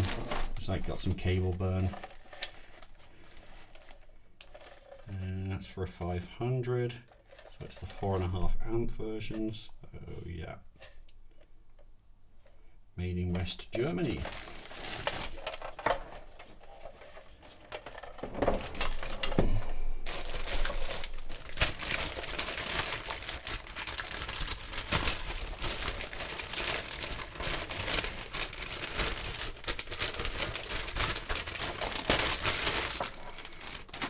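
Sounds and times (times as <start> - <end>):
packing material crinkling: 0.0 - 9.6, 13.3 - 34.0.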